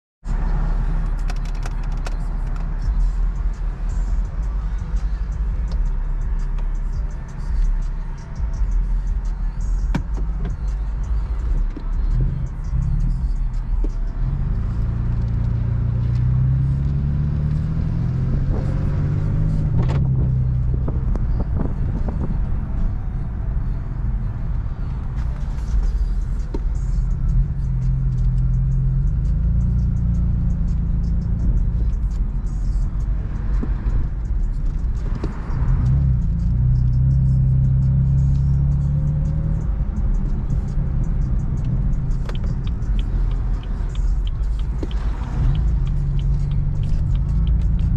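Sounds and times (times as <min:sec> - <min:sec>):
car engine heard from inside: 0:00.3 - 0:47.9.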